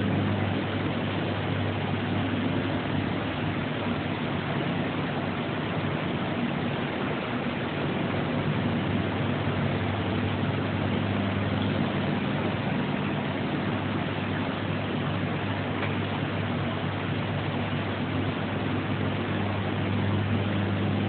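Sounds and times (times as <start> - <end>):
constant hiss: 0.0 - 21.0
low machine hum: 0.0 - 21.0.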